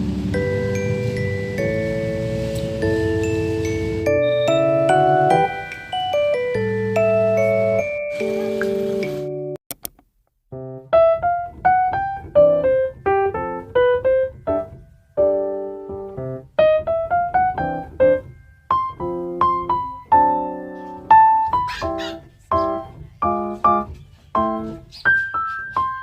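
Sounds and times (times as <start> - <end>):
piano melody: 0.0 - 9.6, 10.5 - 26.0.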